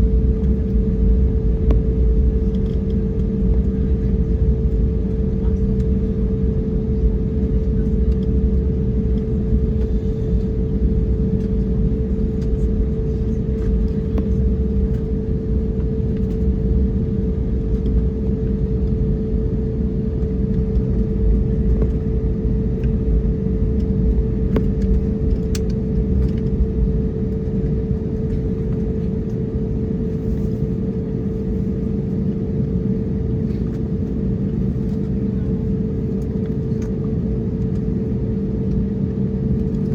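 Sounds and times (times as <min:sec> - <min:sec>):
aircraft cabin engine rumble: 0:00.0 - 0:39.9
constant hum: 0:00.0 - 0:39.9.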